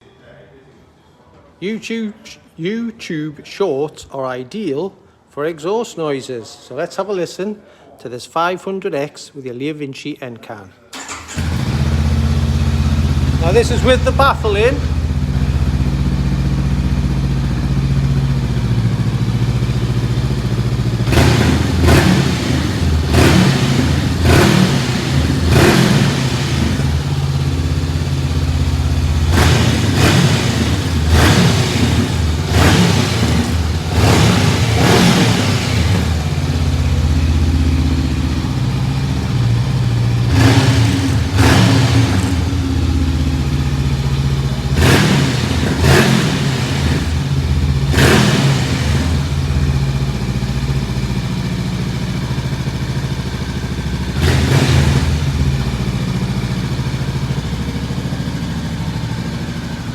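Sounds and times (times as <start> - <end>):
motorcycle engine idling: 11.0 - 59.9
motorcycle engine revving: 11.0 - 59.9.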